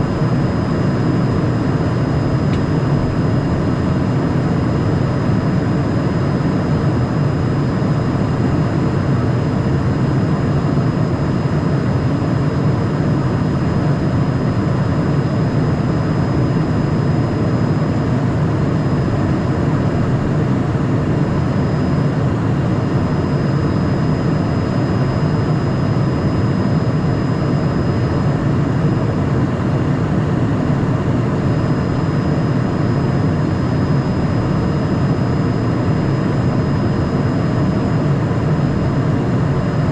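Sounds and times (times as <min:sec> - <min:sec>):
faint high whine: 0:00.0 - 0:39.9
jet cockpit air and engine rush: 0:00.0 - 0:39.9.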